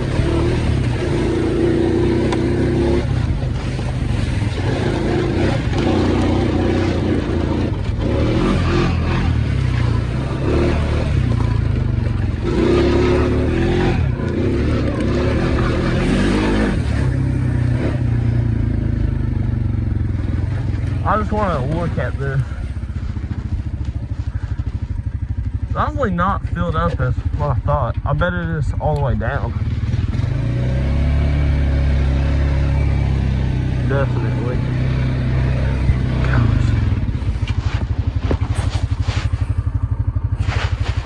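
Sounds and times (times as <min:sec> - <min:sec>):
small off-road engine revving: 0:00.0 - 0:41.0.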